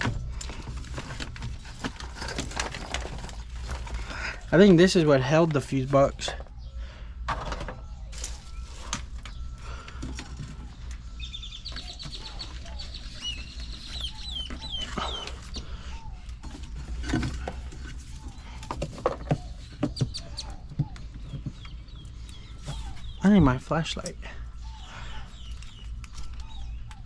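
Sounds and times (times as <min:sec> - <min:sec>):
birds chirping: 0:00.0 - 0:27.0
steady low hum: 0:00.0 - 0:27.0.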